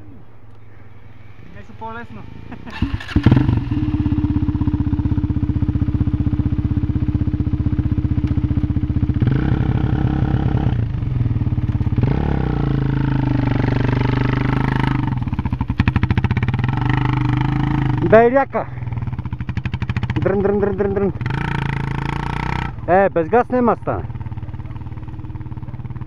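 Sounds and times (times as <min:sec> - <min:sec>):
quad bike engine idling and revving: 0:01.9 - 0:26.0.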